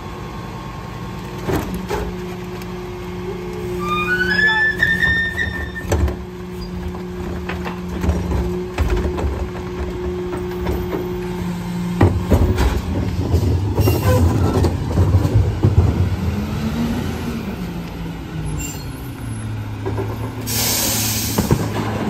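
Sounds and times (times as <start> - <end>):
garbage truck engine humming: 0.0 - 22.0
truck rattling: 1.3 - 16.7, 18.2 - 22.0.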